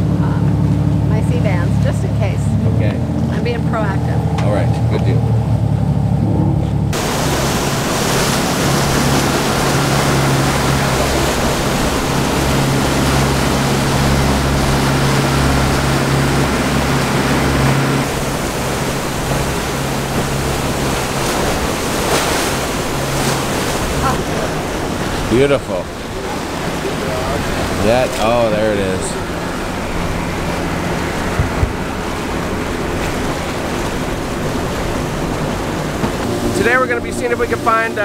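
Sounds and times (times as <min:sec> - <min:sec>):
boat engines humming: 0:00.0 - 0:38.0
wind and water rushing past hull: 0:00.0 - 0:38.0.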